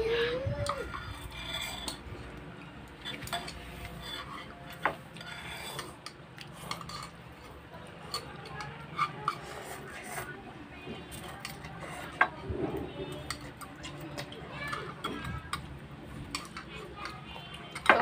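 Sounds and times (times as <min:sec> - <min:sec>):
chopsticks clinking on bowls: 0:00.8 - 0:10.3, 0:11.1 - 0:18.0.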